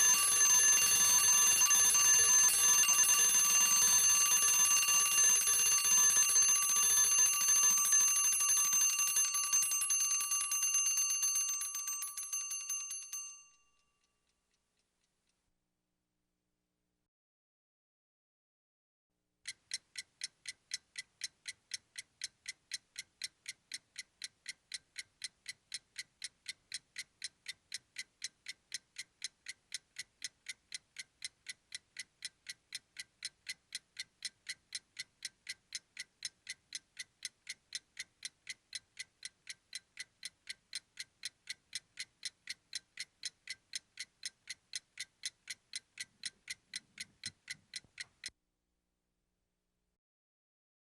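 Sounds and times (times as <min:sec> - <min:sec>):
clock ticking: 0:00.0 - 0:13.4, 0:19.4 - 0:48.3.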